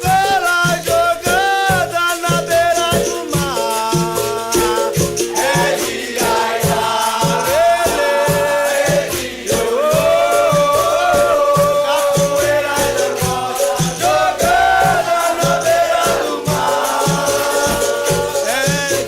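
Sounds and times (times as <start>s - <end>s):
shaker rattle: 0.0s - 19.0s
steady drum beat: 0.0s - 19.0s
voices singing together: 0.0s - 19.0s.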